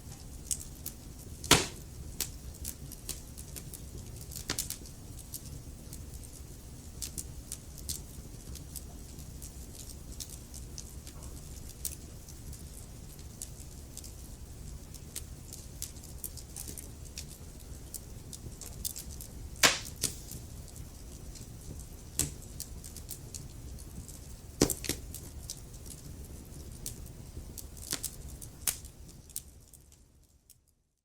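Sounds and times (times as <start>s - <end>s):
wood fire crackling: 0.0s - 30.8s.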